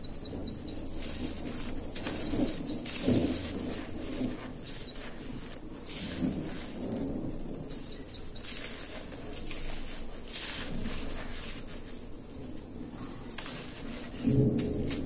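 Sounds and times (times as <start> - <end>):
dirt crunching in hands: 0.0 - 15.0
grit pattering onto pile: 0.0 - 15.0.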